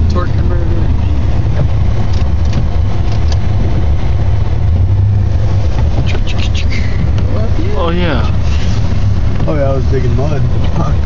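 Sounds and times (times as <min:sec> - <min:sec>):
truck engine droning under load: 0:00.0 - 0:11.0.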